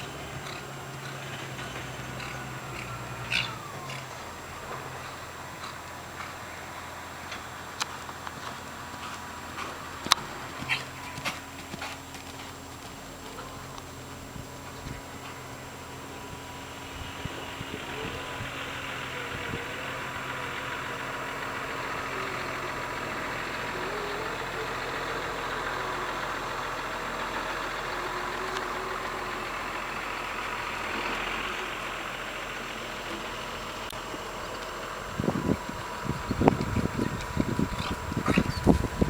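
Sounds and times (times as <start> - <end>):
low motor hum: 0.0 - 39.0.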